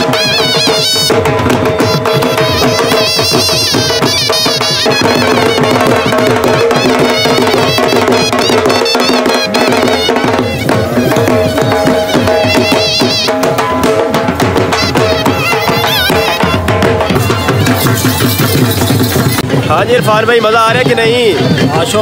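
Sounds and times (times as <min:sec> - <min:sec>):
shehnai melody: 0:00.0 - 0:19.4
dhol drums beating: 0:00.0 - 0:22.0.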